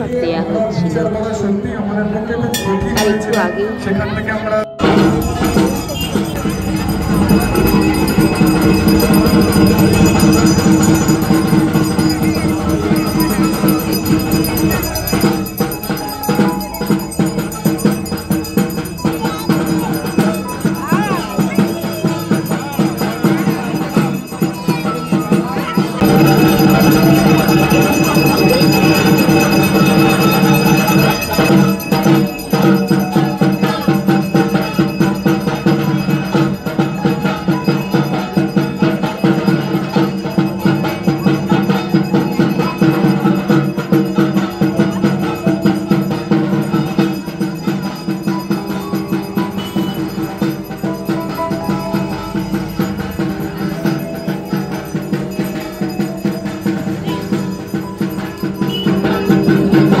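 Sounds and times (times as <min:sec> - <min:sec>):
bells ringing: 0:00.0 - 1:00.0
fast percussion strokes: 0:04.8 - 1:00.0.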